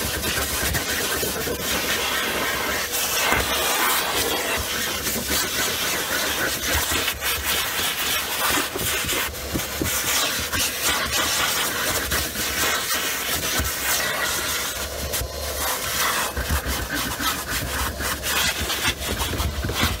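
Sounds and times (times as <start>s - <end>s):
nozzle scraping on carpet: 0.0s - 20.0s
vacuum cleaner running: 0.0s - 20.0s.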